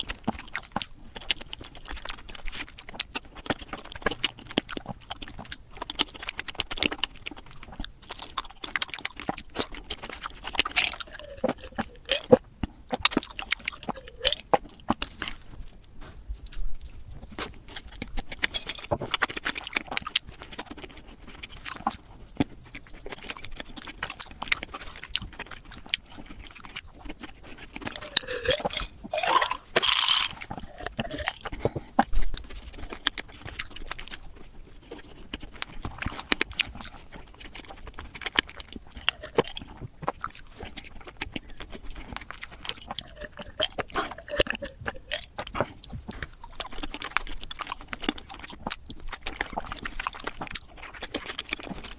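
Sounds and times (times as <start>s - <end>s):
crunching and chewing: 0.0s - 51.9s.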